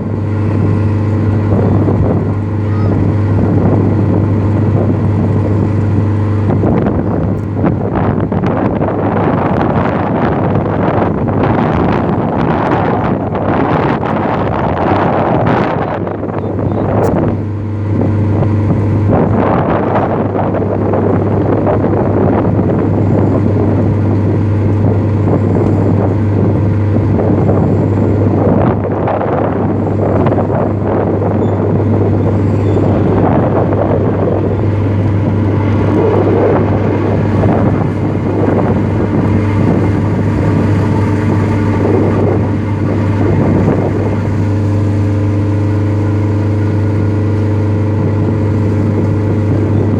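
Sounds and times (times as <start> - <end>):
ship engine droning: 0.0 - 49.9
wind buffeting microphone: 0.0 - 49.9.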